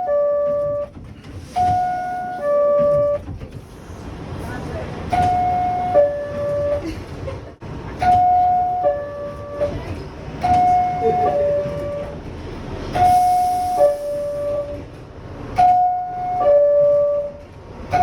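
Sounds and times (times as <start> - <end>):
subway train noise: 0.0 - 18.0.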